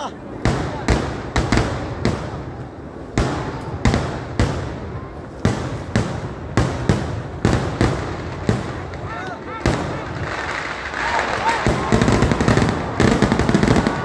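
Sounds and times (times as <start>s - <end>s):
crackle and rumble of explosions: 0.0s - 14.0s
heavy sharp firework bangs: 0.3s - 14.0s.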